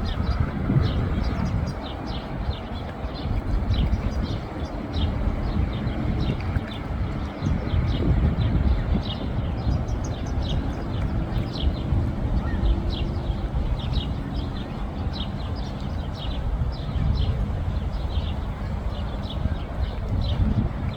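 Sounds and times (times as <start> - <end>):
small birds chirping: 0.1 - 20.7.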